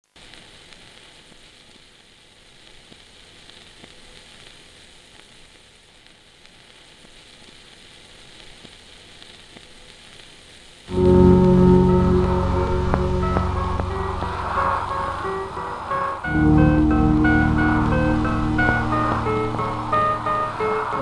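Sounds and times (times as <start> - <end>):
record surface hiss and crackle: 0.0 - 21.0.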